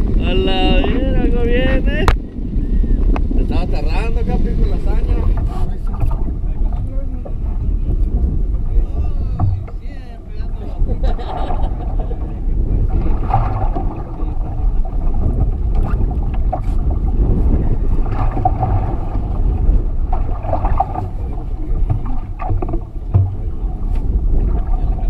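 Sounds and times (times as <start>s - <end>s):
water against boat hull: 0.0s - 25.0s
wind on microphone: 0.0s - 25.0s.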